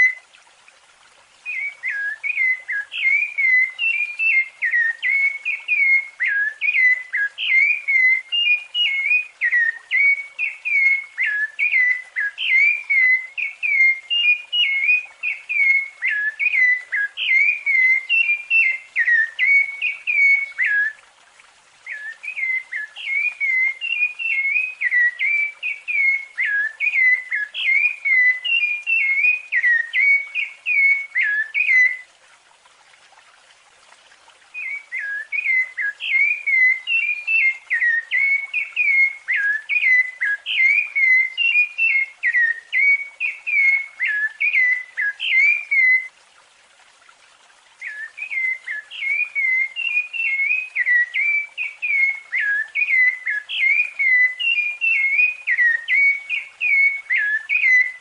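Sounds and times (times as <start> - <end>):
thrush singing whistled phrases: 0.0 - 0.3, 1.4 - 21.0, 21.8 - 32.1, 34.5 - 46.2, 47.8 - 58.0.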